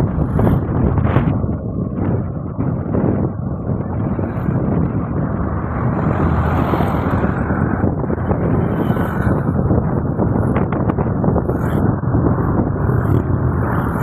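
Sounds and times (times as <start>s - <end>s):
vehicle engine noise: 0.0s - 14.0s
wind rumble on microphone: 0.0s - 14.0s.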